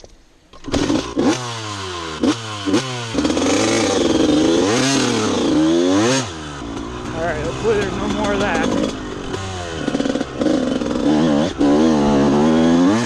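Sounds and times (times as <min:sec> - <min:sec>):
dirt bike engine revving: 0:00.6 - 0:13.0.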